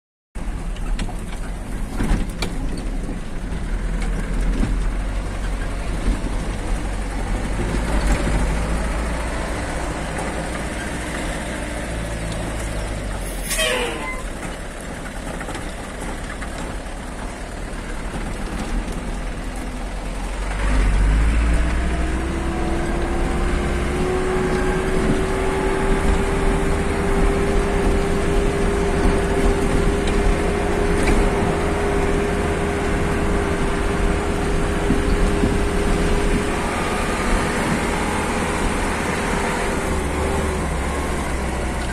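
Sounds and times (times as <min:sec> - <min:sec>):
vehicle engine and road rumble: 0:00.4 - 0:41.9.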